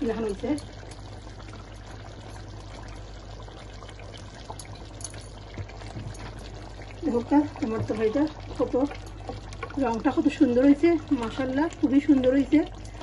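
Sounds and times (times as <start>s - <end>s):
curry bubbling in a pan: 0.0s - 13.0s
low steady hum: 0.0s - 13.0s.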